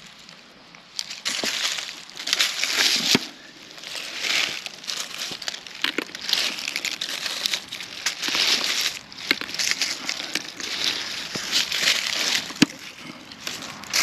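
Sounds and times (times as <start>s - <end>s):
dry vegetation rustling and crackling: 0.0s - 14.0s.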